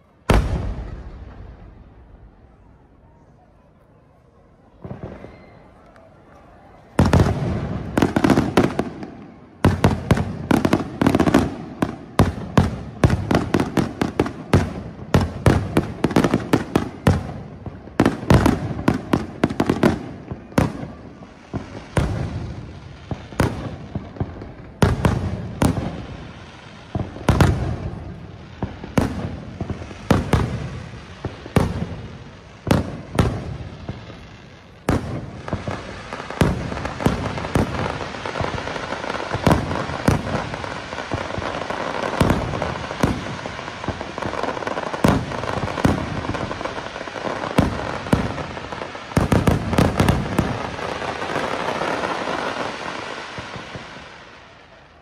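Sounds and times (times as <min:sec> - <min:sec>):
fireworks bursting: 0:00.0 - 0:03.4, 0:04.0 - 0:55.0.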